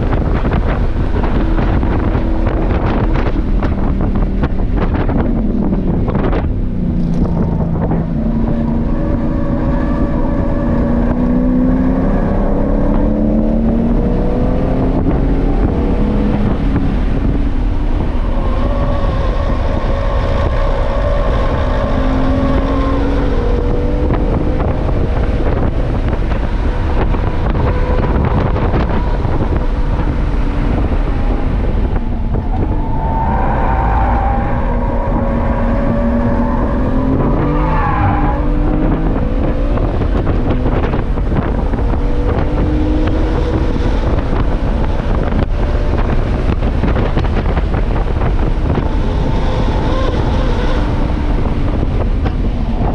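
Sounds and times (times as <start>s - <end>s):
sports car engine revving: 0.0s - 52.9s
wind buffeting microphone: 0.0s - 52.9s.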